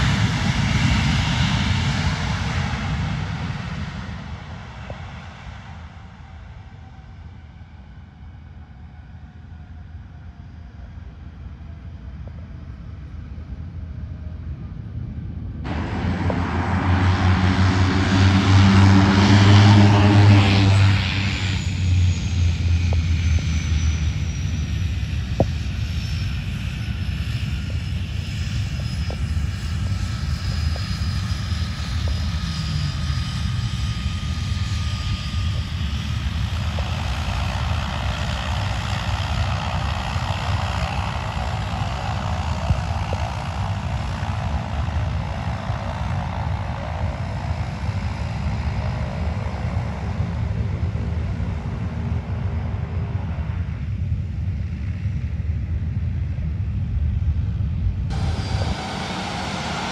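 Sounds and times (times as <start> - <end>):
turboprop engines droning: 0.0 - 59.9.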